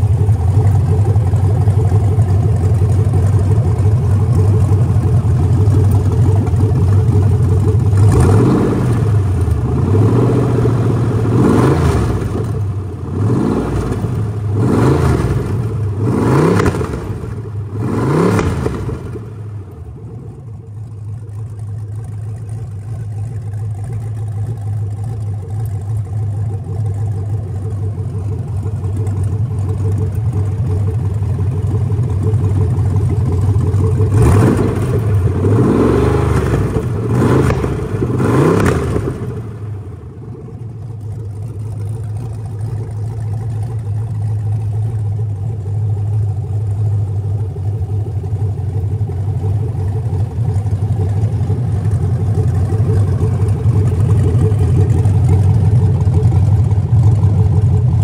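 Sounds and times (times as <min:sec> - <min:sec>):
engine idling and revving: 0:00.0 - 0:58.0.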